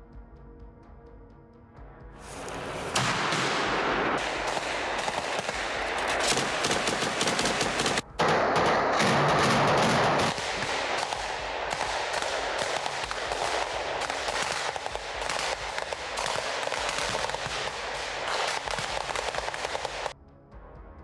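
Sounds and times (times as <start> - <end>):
small-arms gunfire: 2.3 - 20.1.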